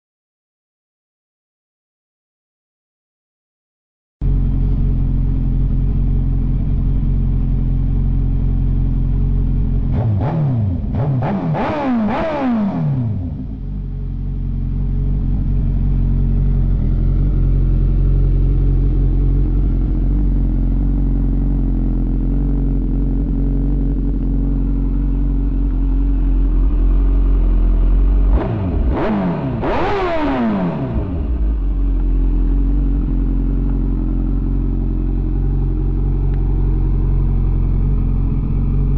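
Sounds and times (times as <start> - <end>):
motorcycle engine idling and revving: 4.2 - 38.9.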